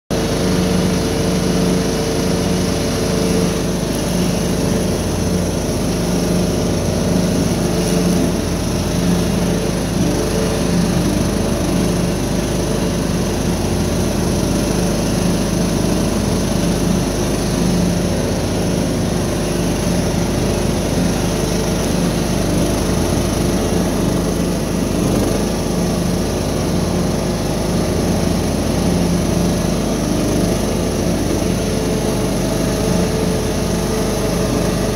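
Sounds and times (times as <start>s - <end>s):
riding mower engine cutting grass: 0.1s - 34.9s.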